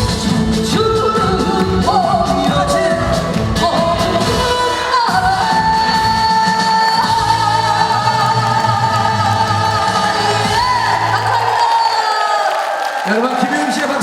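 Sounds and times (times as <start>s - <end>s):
person singing: 0.0s - 12.4s.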